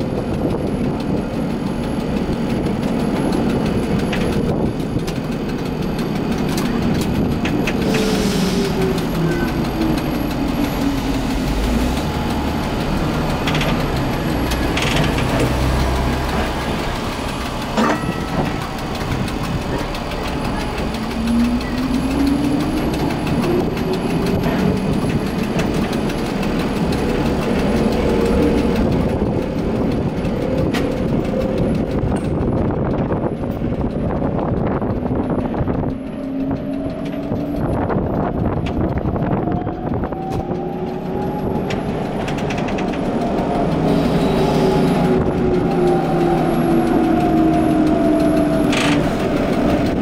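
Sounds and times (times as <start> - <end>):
streetcar wheel and rail rumble: 0.0 - 50.0
tram motor whine: 0.0 - 50.0.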